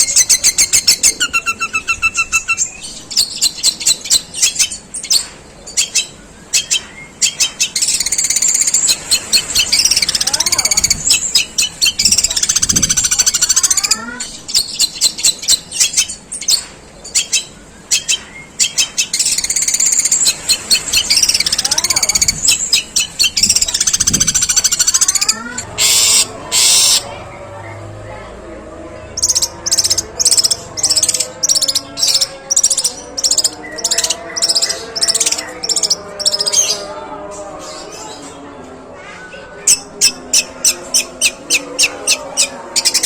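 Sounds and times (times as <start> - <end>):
bird singing harsh chirps: 0.0 - 27.9, 29.0 - 36.9, 39.3 - 43.0.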